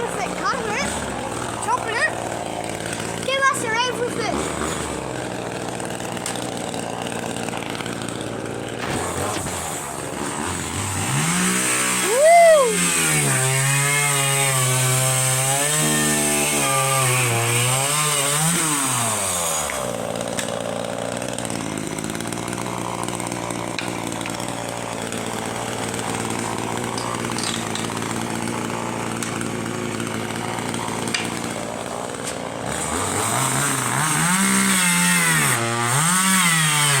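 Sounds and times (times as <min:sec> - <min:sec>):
small motor revving: 0:00.0 - 0:37.0.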